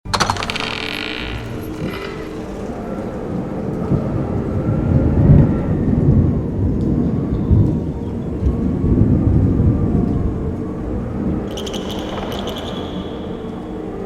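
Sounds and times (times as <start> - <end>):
deep tunnel rumble: 1.2 - 14.0.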